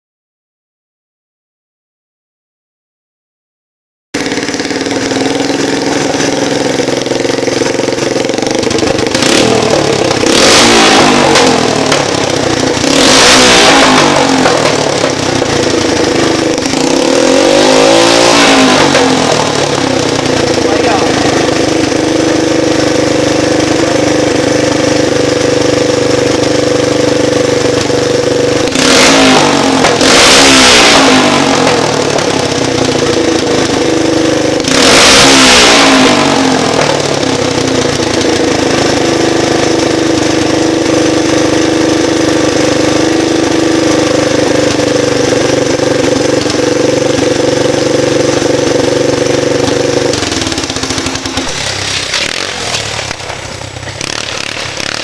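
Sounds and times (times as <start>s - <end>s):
engine idling and revving: 4.2s - 55.0s.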